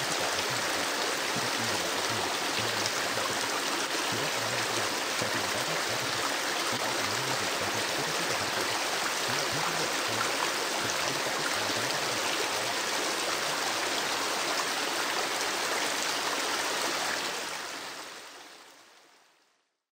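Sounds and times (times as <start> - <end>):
running water: 0.0 - 19.1.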